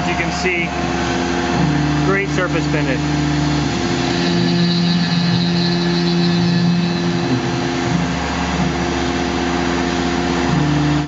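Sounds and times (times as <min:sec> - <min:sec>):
milling machine cutting aluminum: 0:00.0 - 0:11.0.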